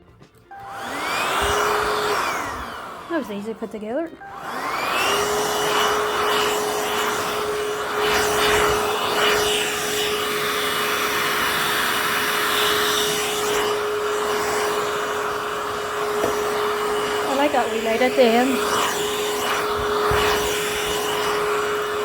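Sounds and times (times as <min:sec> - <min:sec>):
vacuum cleaner motor whine: 0:00.3 - 0:22.0.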